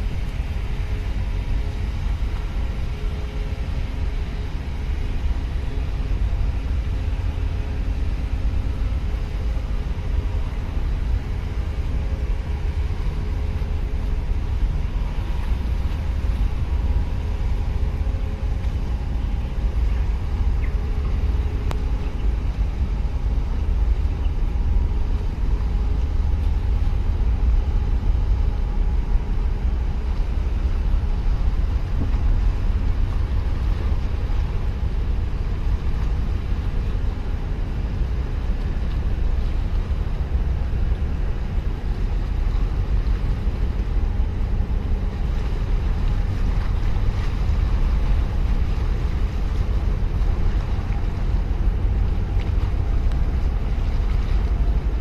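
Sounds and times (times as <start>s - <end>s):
faint machinery hum: 0.0s - 55.0s
ship passing rumble: 0.0s - 55.0s
wind buffeting microphone: 0.0s - 55.0s.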